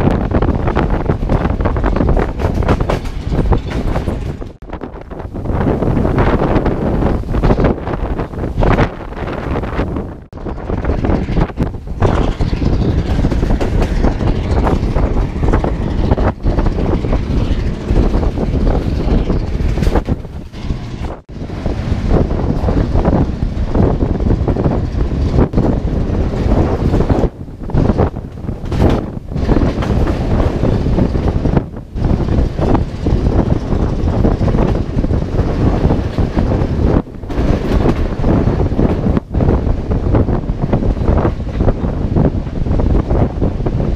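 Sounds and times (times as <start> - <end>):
train wheels clattering on rails: 0.0 - 43.9
wind buffeting microphone: 0.0 - 43.9.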